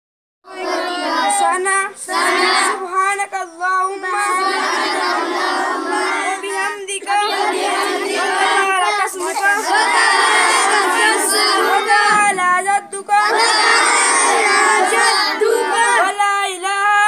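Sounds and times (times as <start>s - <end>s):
children chanting prayers in unison: 0.5s - 17.0s.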